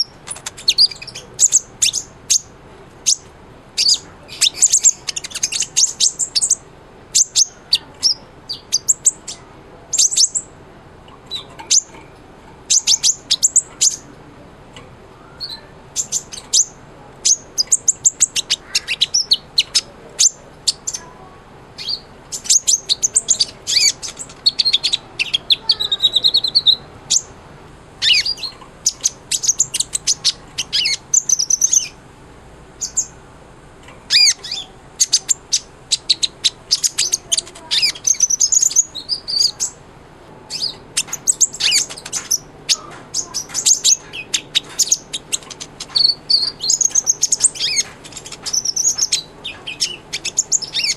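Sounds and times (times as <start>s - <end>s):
buzzy bird trill: 0.0s - 14.1s, 15.2s - 27.4s, 28.0s - 32.0s, 32.8s - 33.2s, 34.1s - 39.8s, 40.5s - 50.9s
sunbird chirps and trills: 0.0s - 14.1s, 15.1s - 27.4s, 28.0s - 32.0s, 32.8s - 33.2s, 34.0s - 39.8s, 40.5s - 50.9s.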